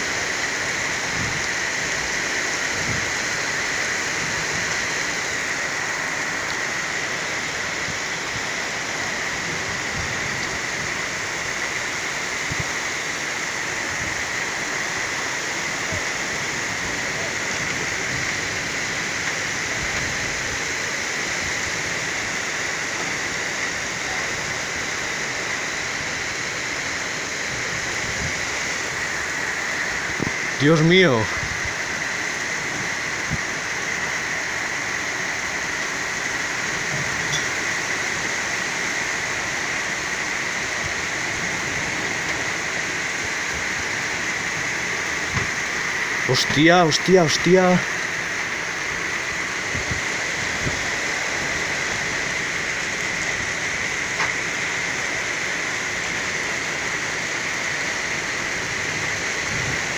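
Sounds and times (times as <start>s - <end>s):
raindrops striking nearby: 0.0s - 59.9s
torrential rain pouring: 0.0s - 59.9s.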